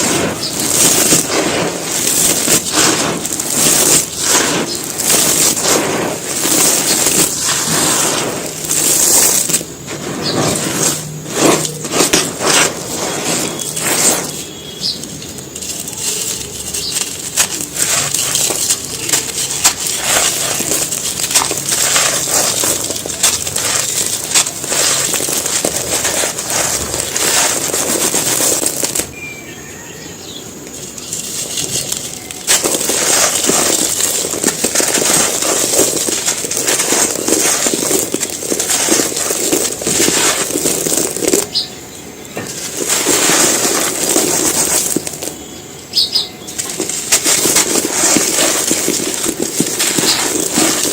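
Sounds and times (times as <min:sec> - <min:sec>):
cement pieces crushed and crumbling: 0:00.0 - 0:50.9.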